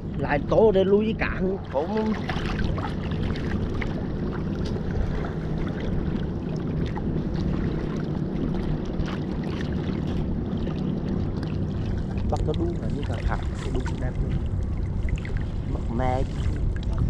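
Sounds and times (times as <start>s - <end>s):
boat engine running: 0.0s - 17.0s
water splashing against hull: 0.0s - 17.0s.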